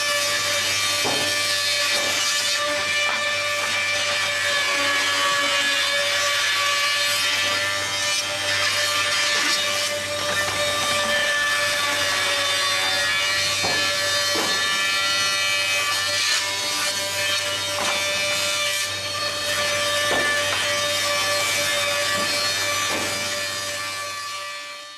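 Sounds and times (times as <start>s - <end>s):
wood planer running: 0.0s - 24.9s.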